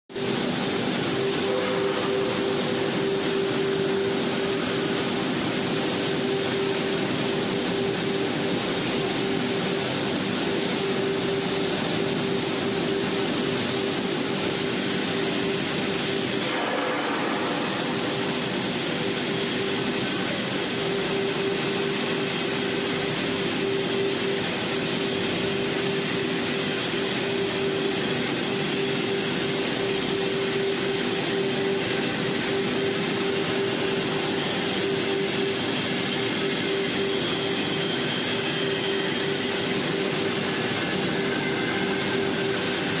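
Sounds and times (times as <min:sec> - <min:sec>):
constant machine hum: 0:00.1 - 0:43.0
industrial machine hiss: 0:00.2 - 0:43.0.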